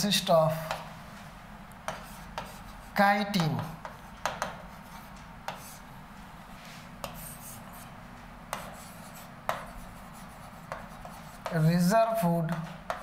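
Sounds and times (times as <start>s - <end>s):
marker writing on whiteboard: 0.5s - 1.0s, 1.8s - 5.9s, 7.0s - 13.0s.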